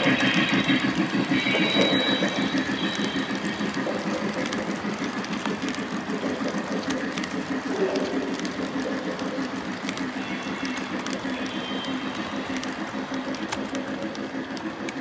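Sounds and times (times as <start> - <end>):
model train clicks: 0.0 - 15.0
model train wheels rumbling: 0.0 - 15.0.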